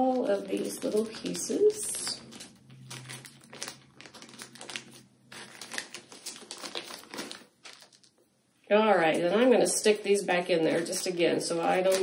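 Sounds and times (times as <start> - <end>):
plastic bag crinkling: 0.0 - 8.3, 9.3 - 12.0.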